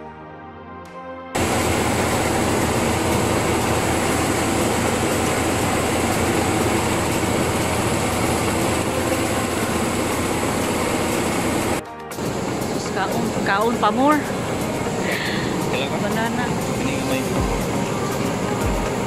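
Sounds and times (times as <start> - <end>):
constant hum: 1.4 - 19.0
mill machinery din: 1.4 - 19.0.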